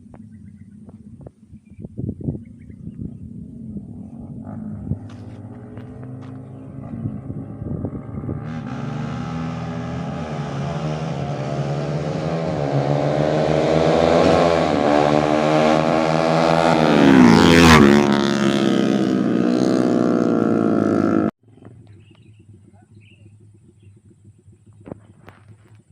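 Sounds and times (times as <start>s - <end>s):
motorcycles accelerating and passing: 0.0s - 25.9s.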